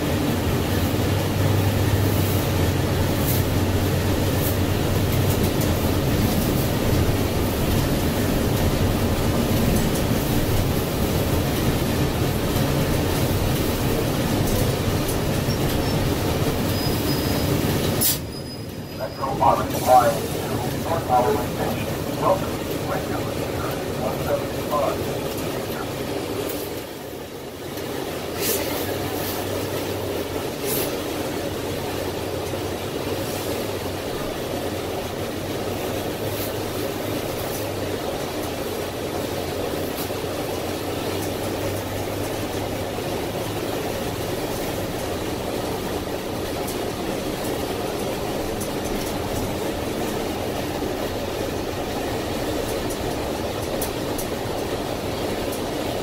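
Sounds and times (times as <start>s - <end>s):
bus engine drone: 0.0s - 56.0s
road and wind noise: 0.0s - 56.0s.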